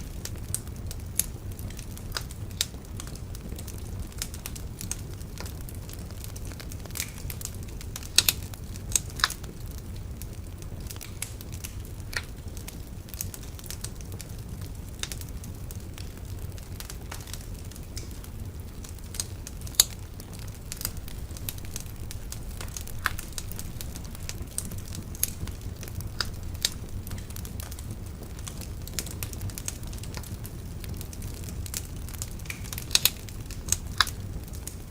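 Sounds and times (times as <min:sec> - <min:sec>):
bonfire crackling: 0:00.0 - 0:34.9
low fire rumble: 0:00.0 - 0:34.9.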